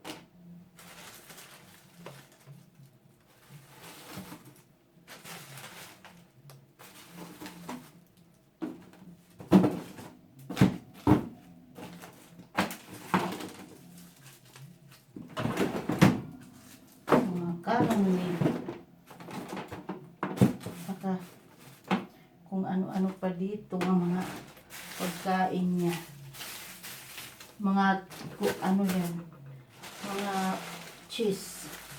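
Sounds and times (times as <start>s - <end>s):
food packages rustling: 0.7s - 8.2s, 8.8s - 22.1s, 23.0s - 31.9s.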